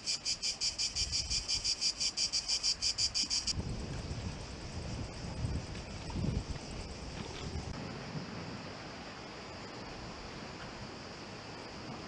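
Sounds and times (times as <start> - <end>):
cicadas pulsing: 0.0 - 12.0
wind rumble on microphone: 0.9 - 1.8, 3.2 - 12.0.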